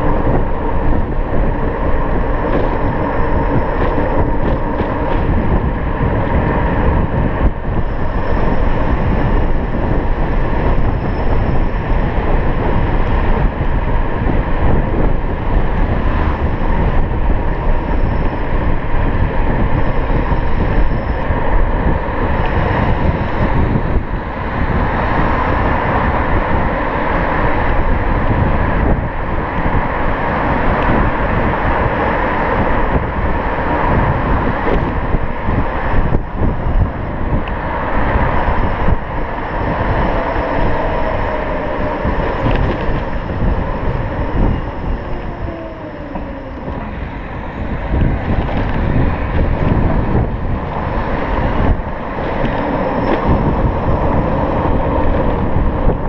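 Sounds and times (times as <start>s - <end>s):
tyre and road noise: 0.0s - 56.0s
wind rush on microphone: 0.0s - 56.0s.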